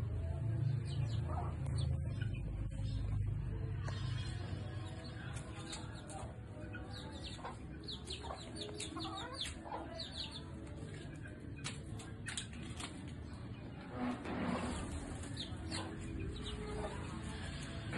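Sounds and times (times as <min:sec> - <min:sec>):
chicks peeping: 0:00.6 - 0:14.1, 0:14.7 - 0:17.9
chickens clucking: 0:00.9 - 0:17.9.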